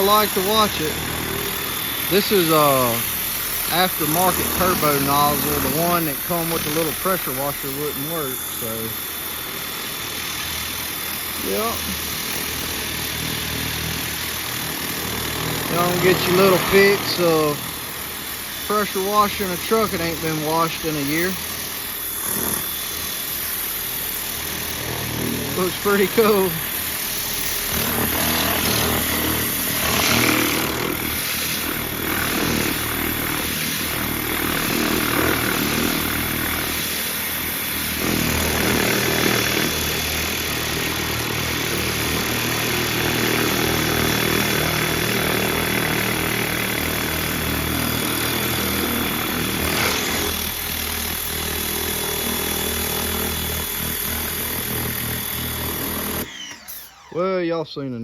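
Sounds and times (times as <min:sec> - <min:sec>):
pressure washer motor humming: 0:00.0 - 0:57.6.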